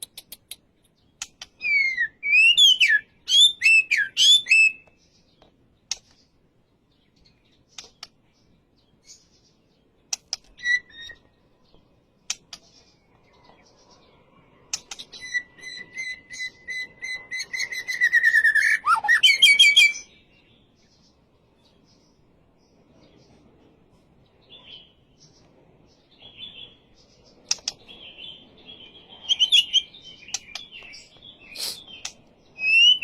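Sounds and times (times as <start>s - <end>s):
songbird calling and singing: 0.0s - 33.0s.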